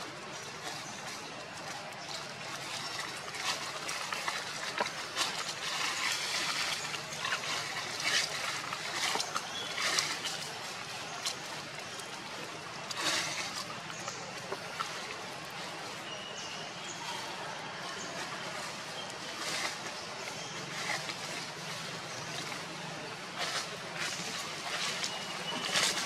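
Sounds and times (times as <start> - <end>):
dry leaves rustling: 0.0 - 26.0.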